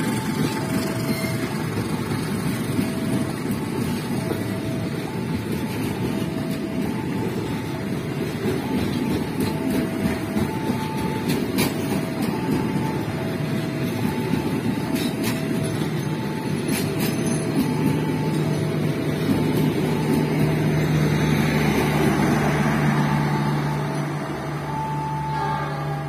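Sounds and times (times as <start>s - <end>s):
train wheels rumbling on rails: 0.0s - 26.0s
two-tone crossing alarm: 0.0s - 26.0s.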